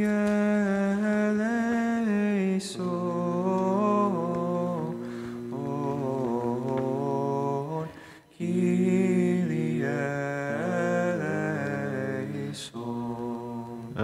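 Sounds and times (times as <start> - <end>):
voices chanting slow melody: 0.0 - 14.0.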